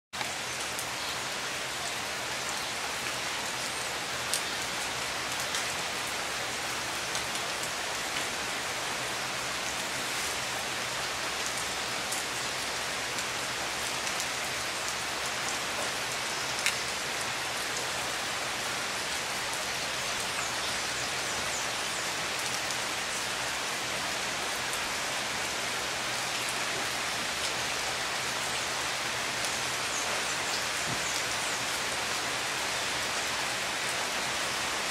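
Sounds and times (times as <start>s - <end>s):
heavy rain on water and roofs: 0.2s - 34.9s.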